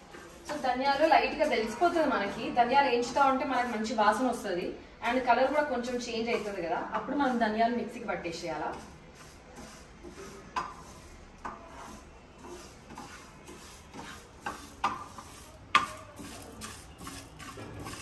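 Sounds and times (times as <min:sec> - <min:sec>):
spatula scraping frying pan: 0:00.0 - 0:18.0.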